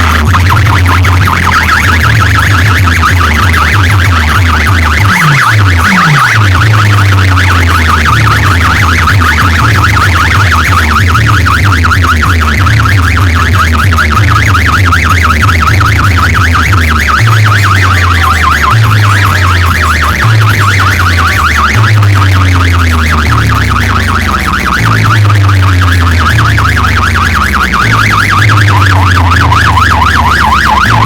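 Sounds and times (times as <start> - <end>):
heavy pulsing bass: 0.0 - 31.0
siren-like warbling tone: 0.0 - 31.0.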